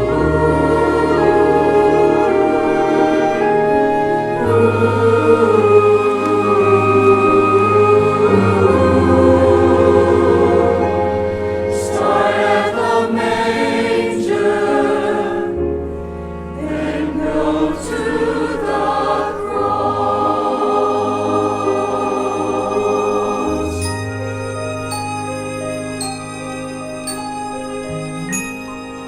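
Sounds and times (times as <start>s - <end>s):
church choir singing: 0.0s - 29.0s
orchestra accompaniment: 0.0s - 29.0s.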